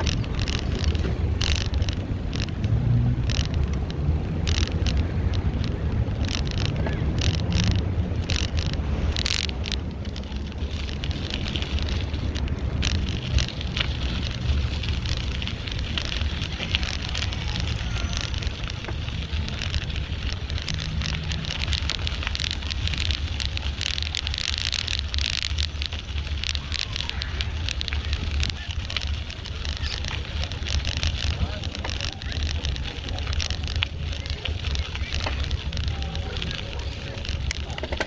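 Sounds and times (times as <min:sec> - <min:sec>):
crackle of small clicks: 0:00.0 - 0:38.0
wind rumble on microphone: 0:00.0 - 0:38.0.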